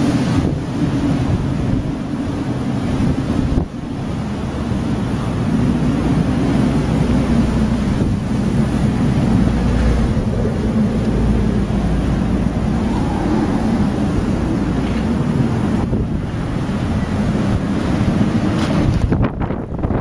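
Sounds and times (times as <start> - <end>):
wind blowing against microphone: 0.0 - 20.0.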